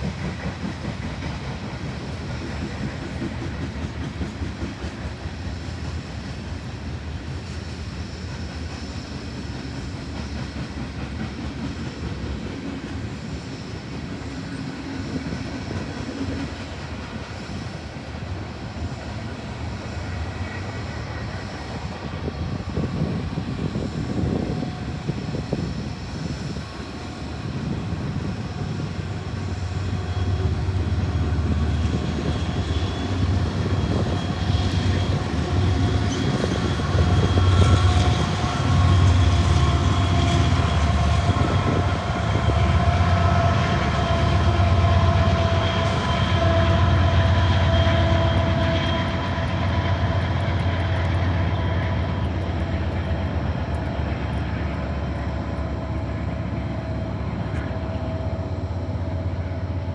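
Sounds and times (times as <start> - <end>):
diesel locomotives rumbling: 0.0 - 59.9
train cars rolling: 0.0 - 59.9.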